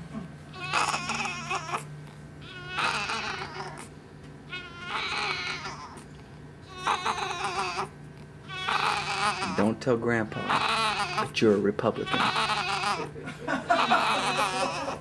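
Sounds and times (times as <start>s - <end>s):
newborn baby crying: 0.5s - 3.9s, 4.5s - 6.1s, 6.7s - 15.0s.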